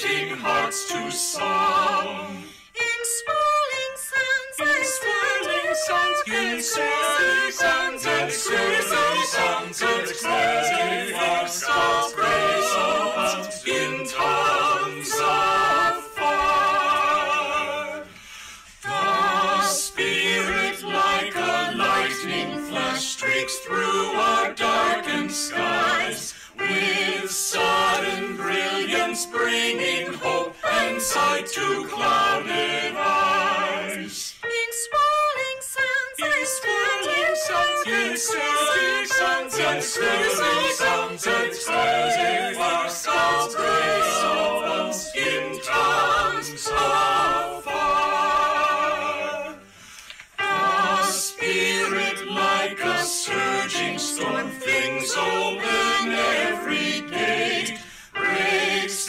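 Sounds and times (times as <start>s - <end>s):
choir singing a hymn a cappella: 0.0s - 59.0s.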